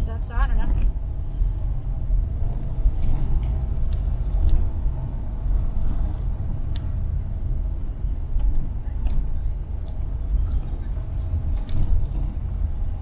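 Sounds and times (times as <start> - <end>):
car driving slowly: 0.0 - 13.0.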